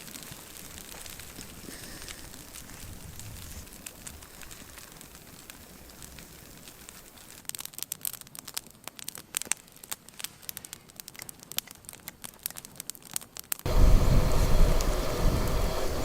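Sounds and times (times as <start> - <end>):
plastic packaging crinkling and tearing: 0.0 - 13.7.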